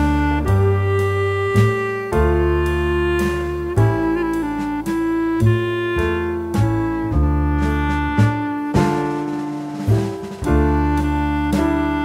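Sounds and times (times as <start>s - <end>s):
low bass line: 0.0s - 12.0s
slow sad saxophone: 0.0s - 12.0s.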